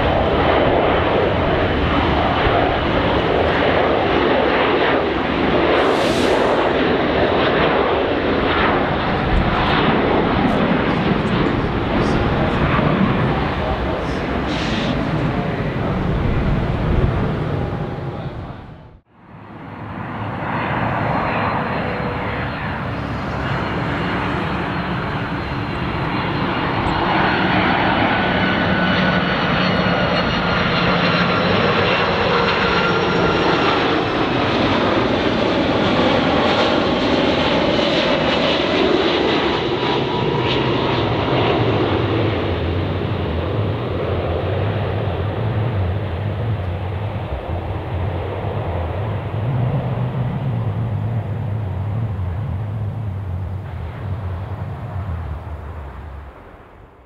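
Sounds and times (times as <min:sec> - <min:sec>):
jet plane passing close: 0:00.0 - 0:57.0.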